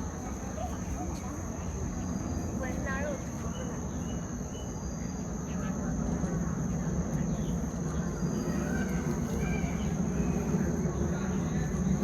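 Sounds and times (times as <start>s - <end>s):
murmur of crowd voices: 0.0s - 12.0s.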